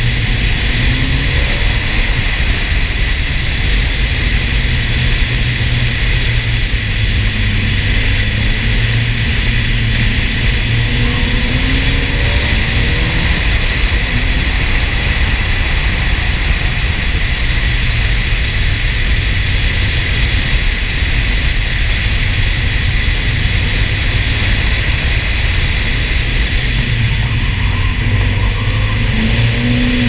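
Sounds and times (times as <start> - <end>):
car road rumble: 0.0 - 30.0
wind buffeting microphone: 0.0 - 30.0.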